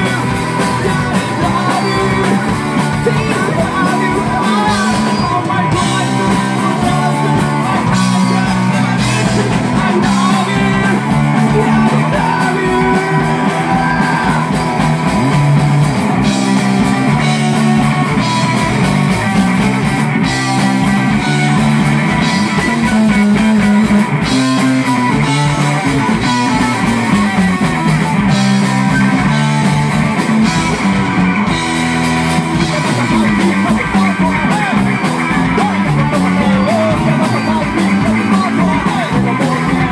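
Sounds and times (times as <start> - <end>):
person singing lead vocal: 0.0 - 31.0, 32.2 - 39.9
drums fast kick beat: 0.0 - 39.9
electric bass: 0.0 - 39.9
electric guitar: 0.0 - 39.9.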